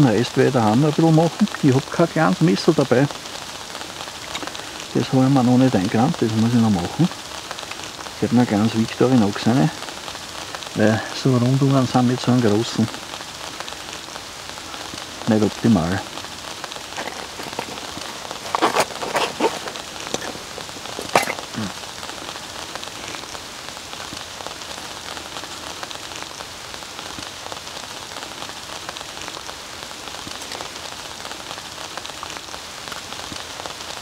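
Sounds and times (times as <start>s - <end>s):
rain on leaves: 0.0s - 34.0s.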